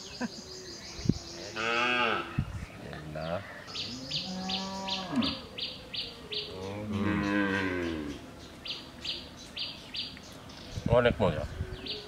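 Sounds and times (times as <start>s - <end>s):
bird chirping: 0.0s - 1.7s, 3.2s - 12.0s.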